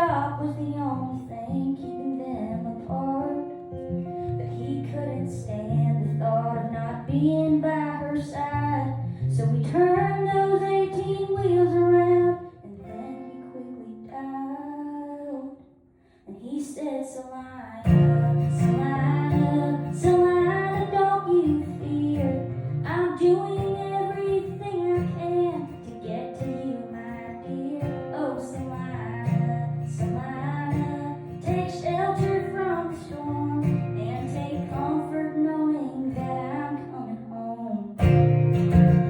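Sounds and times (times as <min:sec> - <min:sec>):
acoustic guitar: 0:00.0 - 0:39.0
woman singing country melody: 0:00.0 - 0:39.0.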